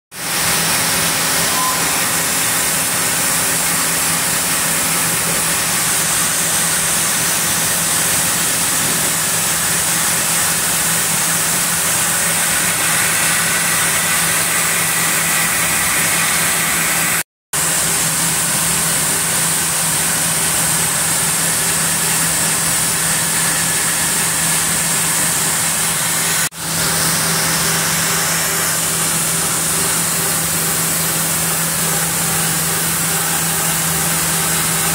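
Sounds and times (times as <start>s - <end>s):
band saw machinery humming: 0.2s - 34.9s.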